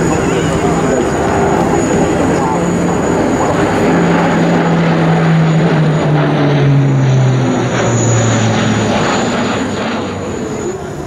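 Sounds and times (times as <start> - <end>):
propeller aircraft droning overhead: 0.0 - 11.0.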